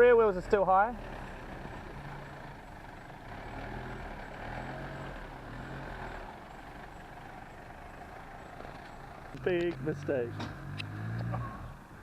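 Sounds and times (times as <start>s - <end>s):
car engine at low revs: 0.0s - 12.0s.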